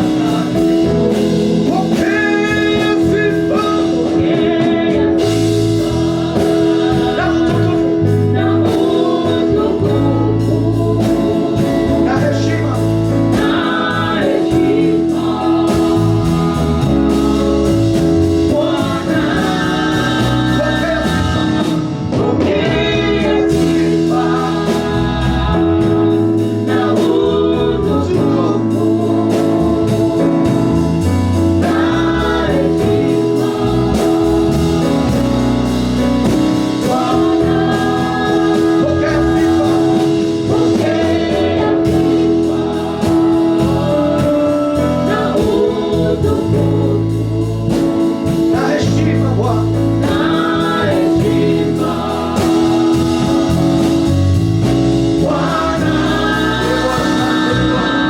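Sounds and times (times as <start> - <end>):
sustained organ-like tone: 0.0 - 54.5
keyboard and bass accompaniment: 0.0 - 58.0
voices singing together: 0.0 - 58.0.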